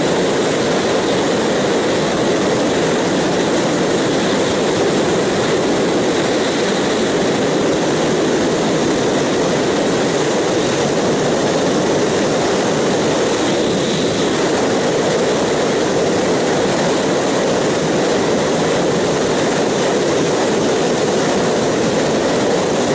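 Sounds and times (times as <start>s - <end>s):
motorcycle road noise at speed: 0.0s - 22.9s
wind rush: 0.0s - 22.9s.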